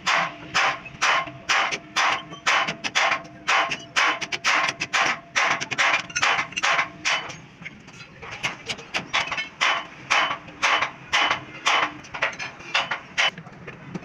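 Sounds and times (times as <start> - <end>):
hammer striking metal: 0.0 - 7.4, 8.4 - 13.3.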